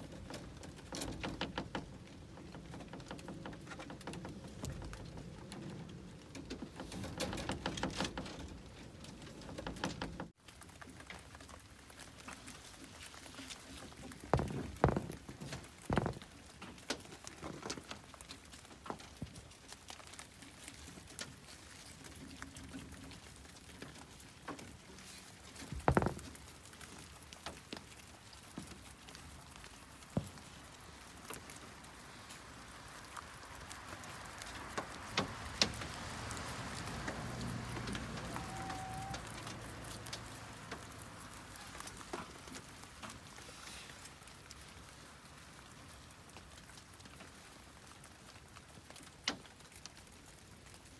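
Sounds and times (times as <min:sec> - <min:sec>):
rabbits munching greens: 0:00.0 - 0:50.9.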